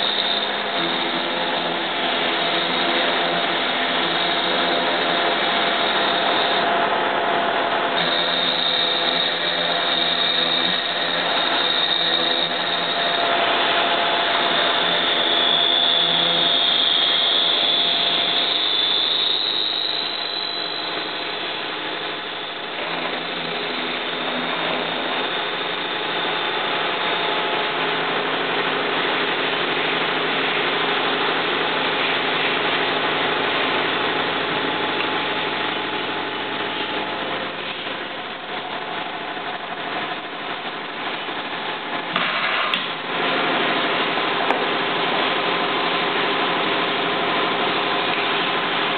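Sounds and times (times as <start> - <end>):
end mill cutting steel squeal: 0.0 - 40.6
milling machine motor hum: 0.0 - 42.2.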